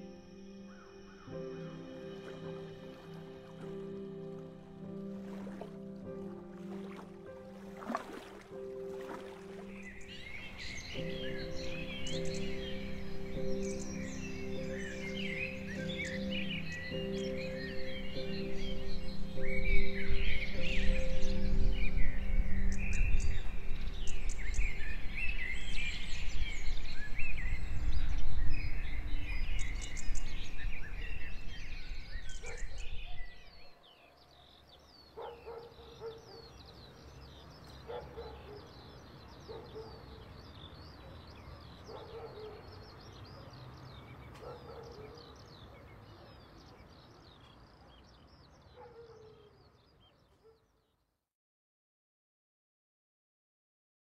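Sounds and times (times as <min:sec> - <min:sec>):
birds chirping and singing: 0:00.0 - 0:04.2, 0:04.8 - 0:50.7.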